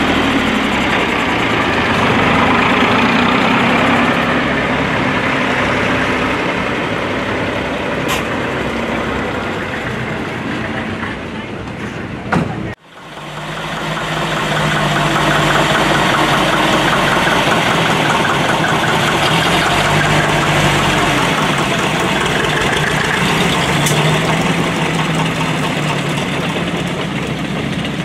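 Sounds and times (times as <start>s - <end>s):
truck engine at low revs: 0.0s - 28.0s.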